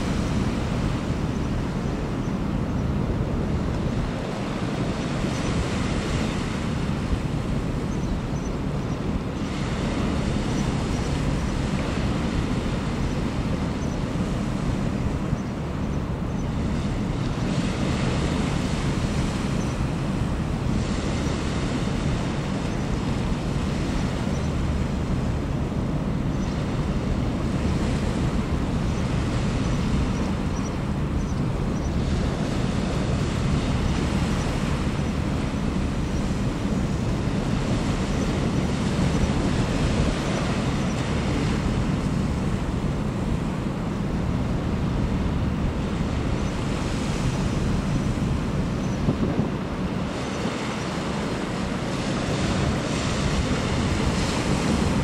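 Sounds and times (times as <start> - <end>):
ship engine drone: 0.0 - 55.0
wind buffeting microphone: 0.0 - 55.0.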